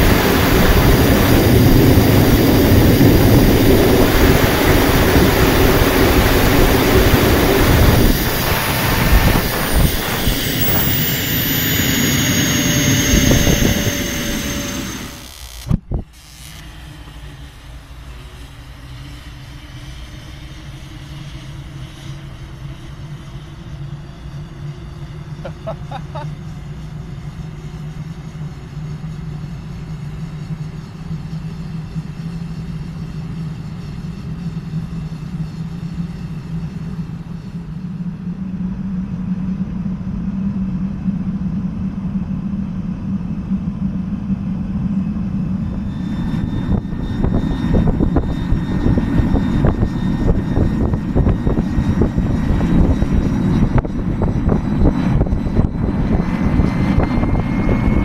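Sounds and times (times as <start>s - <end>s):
jet turbine rumble and whine: 0.0s - 58.0s.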